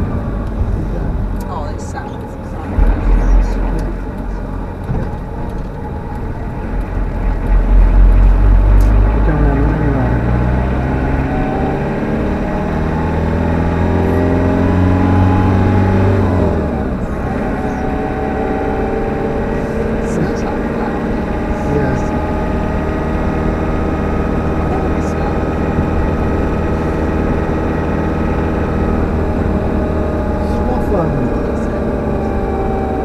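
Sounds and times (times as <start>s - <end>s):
road rumble: 0.0s - 33.0s
vehicle engine: 0.0s - 33.0s.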